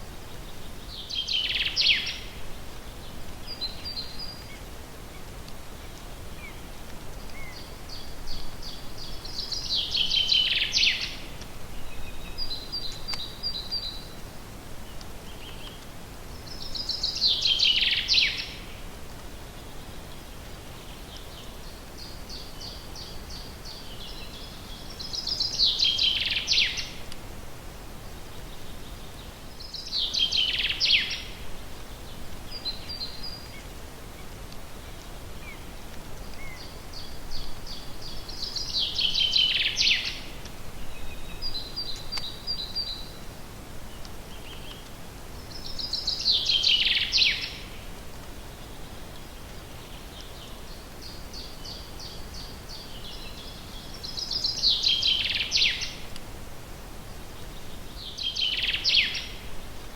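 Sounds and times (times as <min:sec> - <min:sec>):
faint steady hiss: 0:00.0 - 0:59.9
songbird singing: 0:00.1 - 0:59.9.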